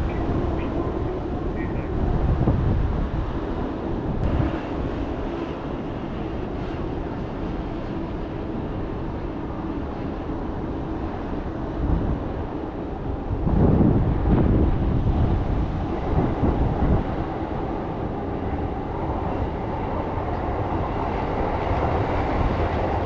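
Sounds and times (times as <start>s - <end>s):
trains rumbling: 0.0s - 23.0s
wind noise on microphone: 0.0s - 23.0s.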